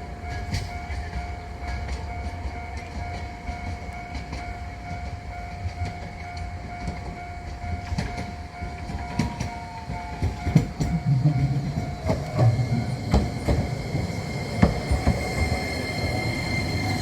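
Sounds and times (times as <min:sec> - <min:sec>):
railroad crossing warning signal: 0:00.0 - 0:17.0
train wheels clicking over rails: 0:00.0 - 0:17.0.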